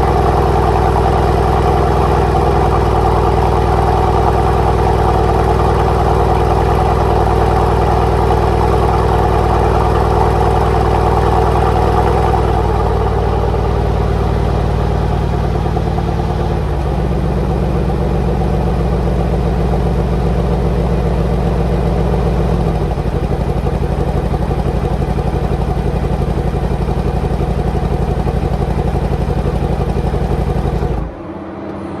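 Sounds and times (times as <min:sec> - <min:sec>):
car exhaust idling: 0:00.0 - 0:31.3.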